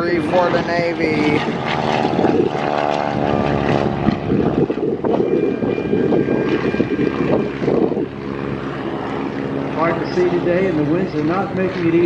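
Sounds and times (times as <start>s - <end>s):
propeller airplane flying by: 0.0s - 12.0s.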